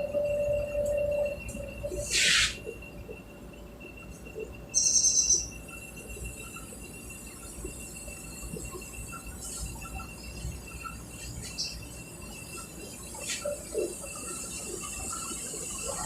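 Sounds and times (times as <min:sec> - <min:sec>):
faint high whine: 0:00.0 - 0:16.0
high pulsing chirp: 0:00.0 - 0:16.0.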